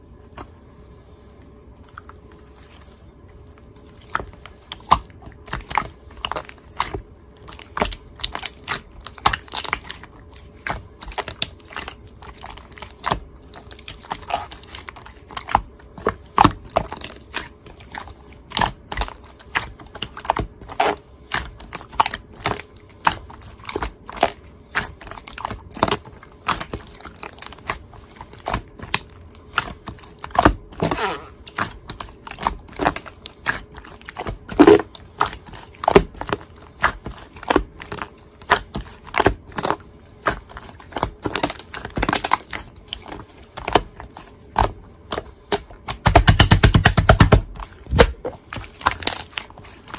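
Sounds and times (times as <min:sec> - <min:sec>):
slime squished by hand: 0:01.8 - 0:49.9.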